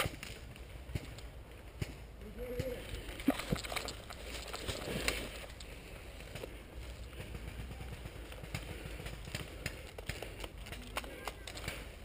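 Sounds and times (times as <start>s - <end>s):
rustling dry brush and leaves: 0.0s - 12.0s.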